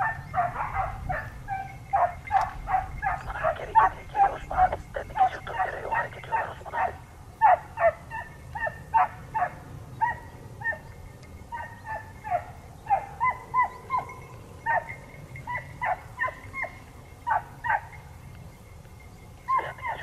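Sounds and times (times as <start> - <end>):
dogs barking and yelping: 0.0 - 18.2, 19.5 - 20.0.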